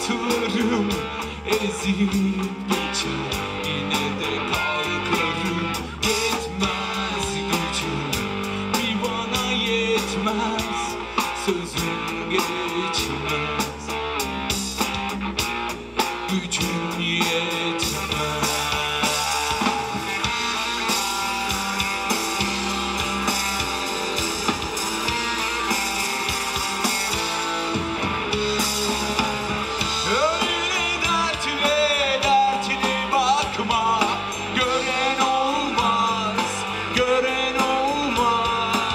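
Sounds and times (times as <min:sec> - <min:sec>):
bass guitar: 0:00.0 - 0:38.9
drum kit with cymbals: 0:00.0 - 0:38.9
electric guitars: 0:00.0 - 0:38.9.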